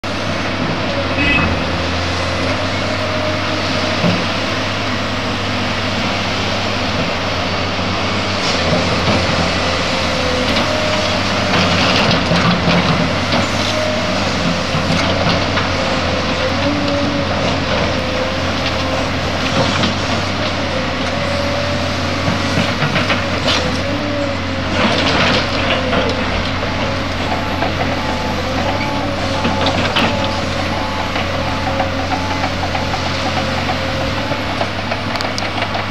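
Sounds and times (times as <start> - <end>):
dump trucks running: 0.0 - 35.9
excavator diesel engine: 0.0 - 35.9.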